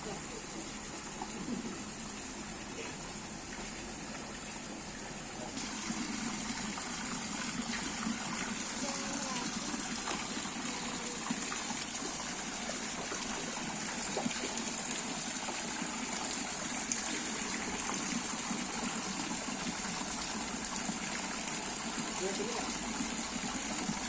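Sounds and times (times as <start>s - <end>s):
water gushing into pool: 0.0s - 24.0s.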